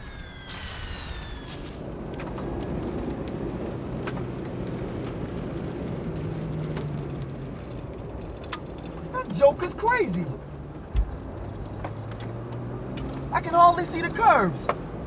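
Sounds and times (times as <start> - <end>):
car engine and road rumble: 0.2 - 15.0.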